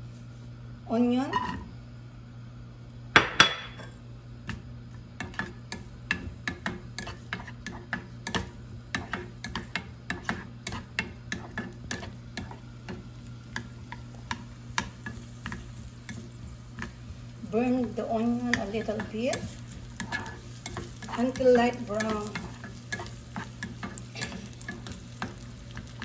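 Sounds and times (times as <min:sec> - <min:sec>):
spatula tapping and scraping pan: 0:03.2 - 0:26.0.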